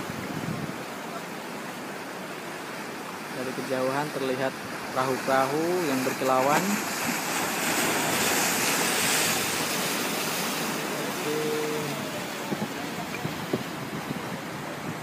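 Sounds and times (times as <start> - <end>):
sea waves on rocky shore: 0.0 - 15.0
sea wind: 0.0 - 15.0.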